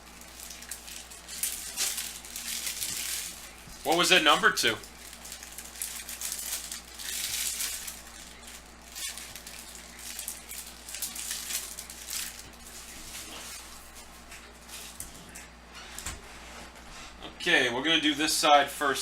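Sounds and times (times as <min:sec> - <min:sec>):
foil wrappers crinkling: 0:00.0 - 0:15.4.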